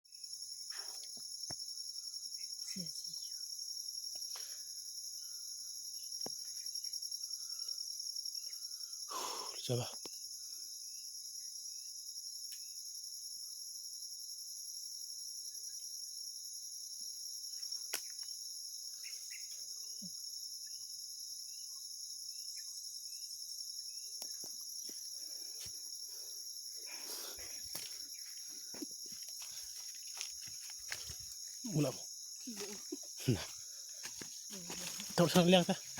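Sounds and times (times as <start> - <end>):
insect chorus droning: 0.0 - 35.9.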